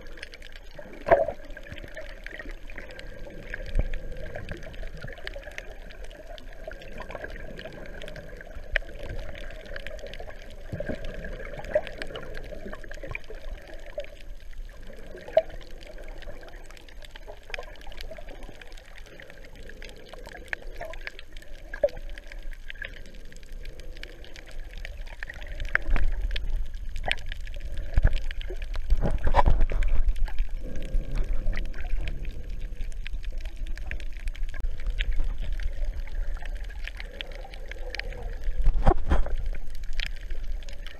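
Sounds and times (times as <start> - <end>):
muffled underwater wash: 0.0 - 40.9
underwater clicks: 0.0 - 40.9.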